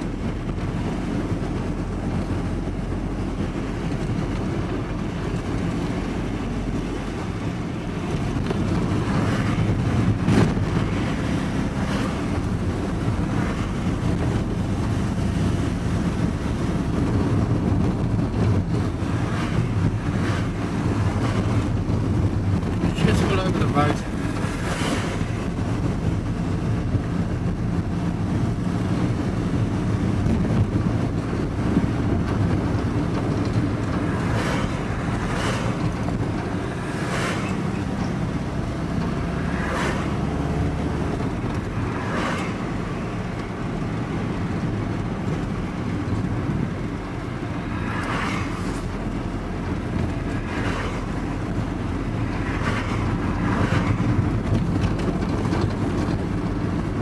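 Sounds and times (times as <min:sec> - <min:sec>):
engine and road rumble: 0:00.0 - 0:57.0
passing traffic whooshes: 0:00.0 - 0:57.0.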